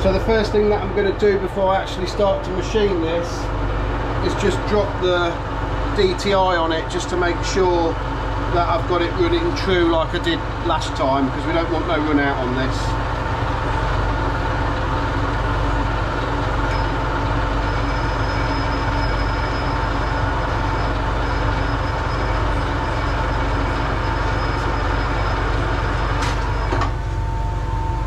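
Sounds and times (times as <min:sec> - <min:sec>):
constant whine: 0:00.0 - 0:28.0.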